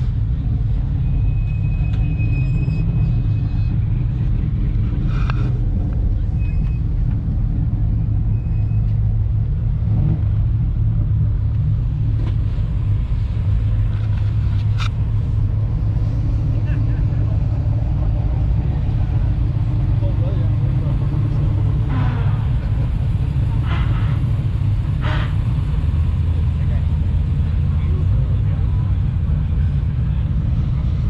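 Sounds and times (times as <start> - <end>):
car engines idling: 0.0 - 31.0.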